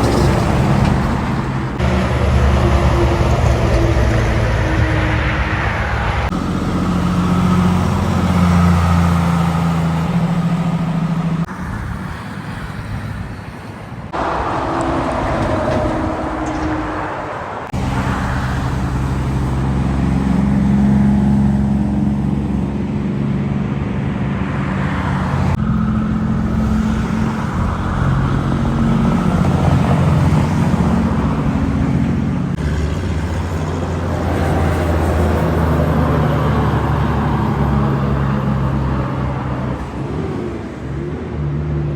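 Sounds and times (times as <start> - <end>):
lorry diesel engines driving by: 0.0 - 41.9.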